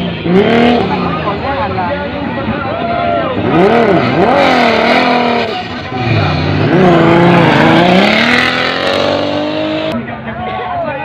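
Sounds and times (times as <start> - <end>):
truck engine revving: 0.0 - 2.2, 3.3 - 10.0.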